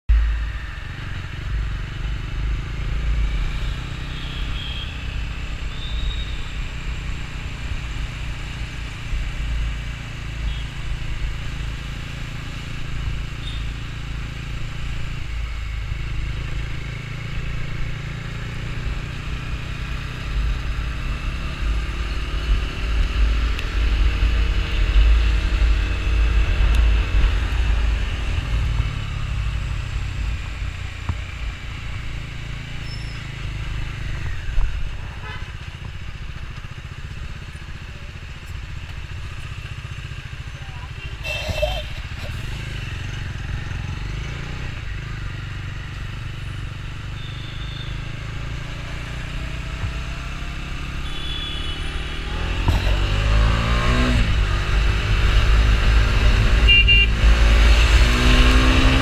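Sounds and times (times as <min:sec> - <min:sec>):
motorcycle engine running: 0:00.1 - 0:59.0.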